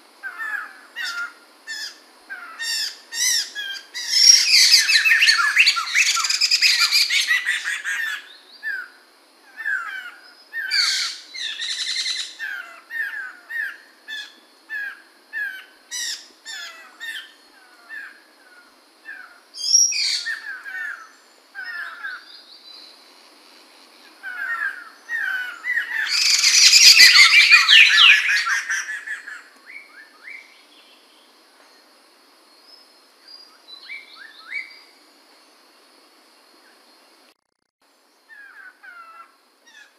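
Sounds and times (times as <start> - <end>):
bird singing: 0.2 - 23.1, 24.2 - 31.9, 32.5 - 35.6.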